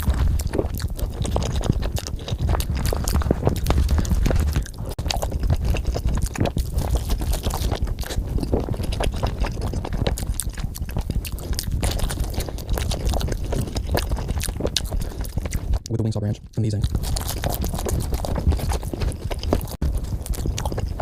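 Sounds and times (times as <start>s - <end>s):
chewing and biting food: 0.0s - 21.0s.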